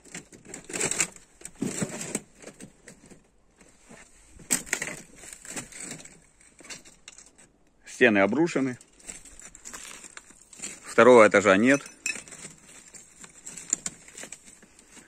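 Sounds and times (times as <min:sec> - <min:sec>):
footsteps crunching over rubble: 0:00.0 - 0:15.0.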